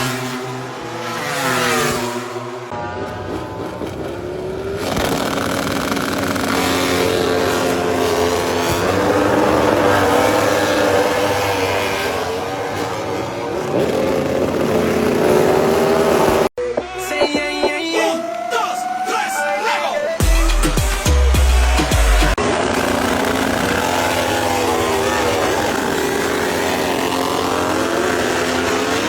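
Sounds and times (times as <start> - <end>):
racing motorcycle engines revving: 0.0 - 29.0.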